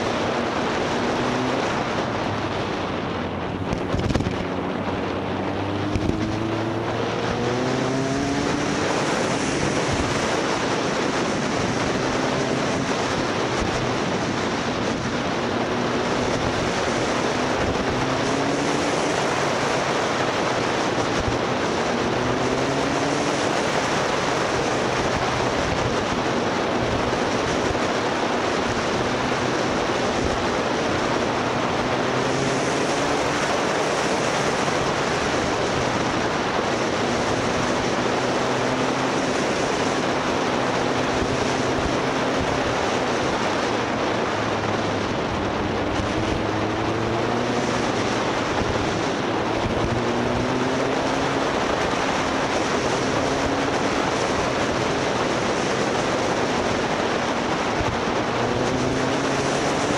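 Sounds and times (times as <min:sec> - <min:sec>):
motorcycle engine accelerating: 0:00.0 - 0:59.9
wind rushing over microphone: 0:00.0 - 0:59.9.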